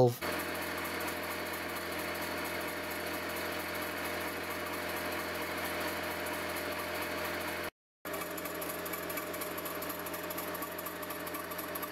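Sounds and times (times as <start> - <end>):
mechanical whirr and clatter: 0.2 - 11.9.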